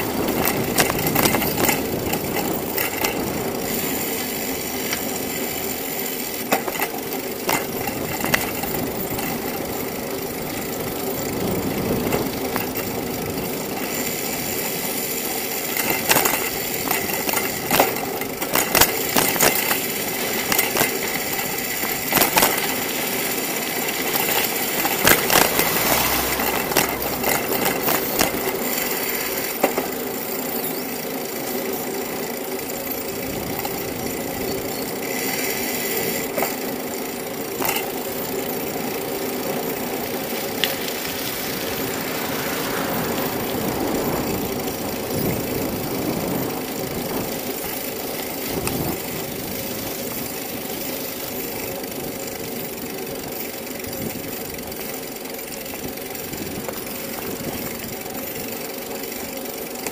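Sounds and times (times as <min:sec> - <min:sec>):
bicycle rolling on asphalt: 0:00.0 - 0:59.9.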